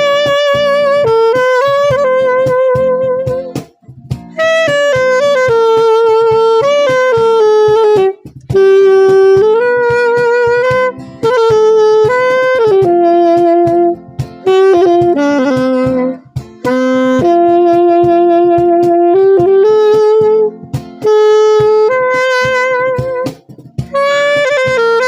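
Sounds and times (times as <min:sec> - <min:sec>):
saxophone slow melody: 0:00.0 - 0:25.0
steady backing beat: 0:00.0 - 0:25.0.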